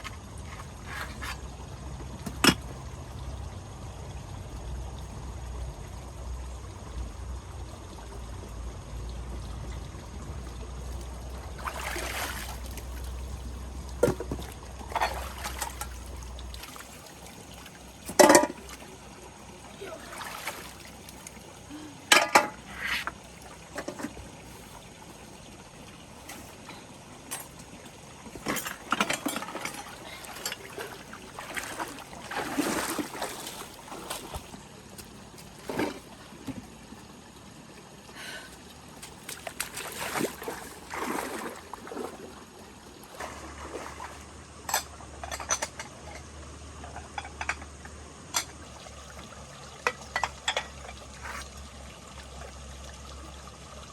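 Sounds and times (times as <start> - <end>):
water splashing and trickling: 0.0 - 53.9.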